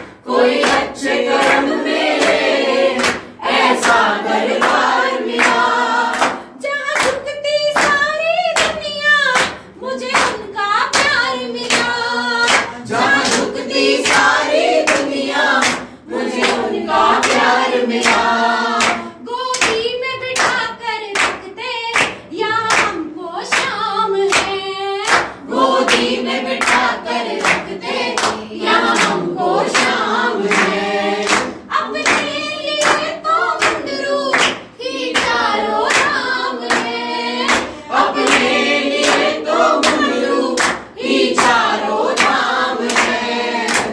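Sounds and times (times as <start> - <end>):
group singing in chorus: 0.0 - 43.9
rhythmic hand clapping: 0.0 - 43.9.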